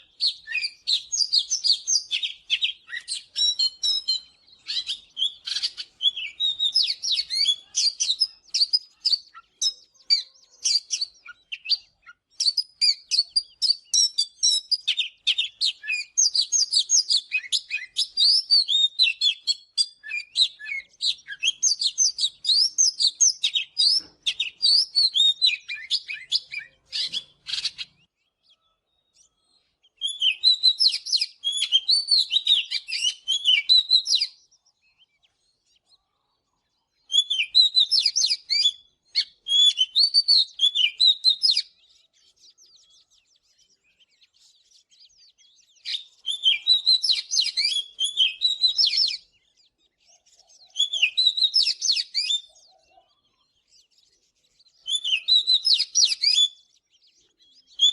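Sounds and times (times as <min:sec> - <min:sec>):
bird singing whistled notes: 0:00.0 - 0:57.9.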